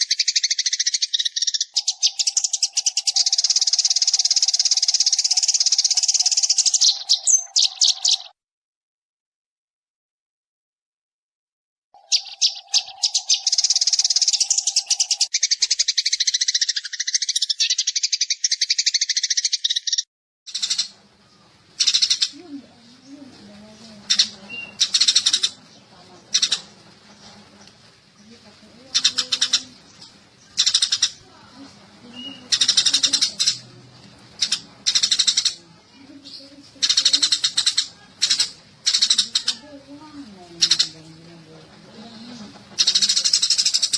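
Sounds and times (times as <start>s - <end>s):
sparrows chirping: 0.0s - 8.4s, 12.0s - 43.9s.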